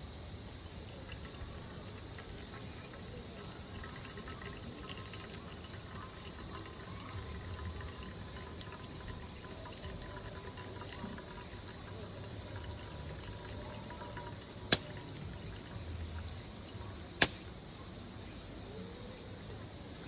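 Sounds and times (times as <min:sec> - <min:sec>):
background hiss: 0:00.0 - 0:20.0
insects chirring: 0:00.0 - 0:20.0.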